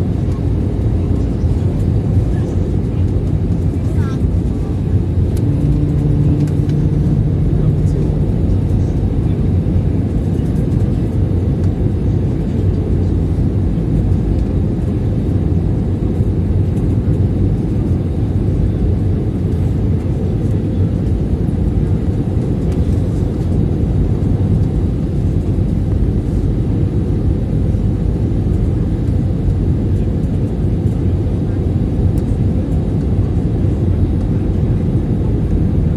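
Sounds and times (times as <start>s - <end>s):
aircraft engine rumble in cabin: 0.0s - 35.9s.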